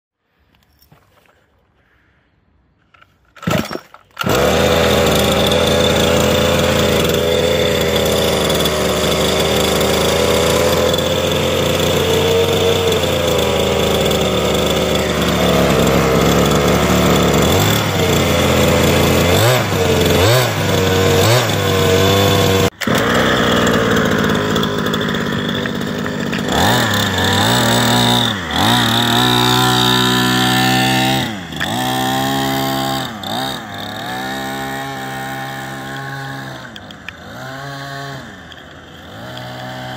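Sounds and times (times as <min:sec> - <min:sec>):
engine pull-start: 0:02.9 - 0:39.9
small two-stroke engine revving: 0:03.4 - 0:39.9.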